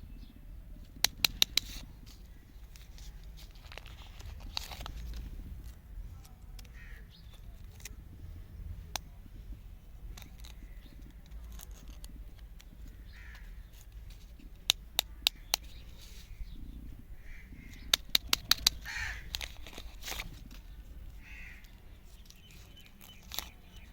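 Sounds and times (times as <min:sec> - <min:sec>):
sharp clicks: 0:00.8 - 0:08.2, 0:10.1 - 0:23.9.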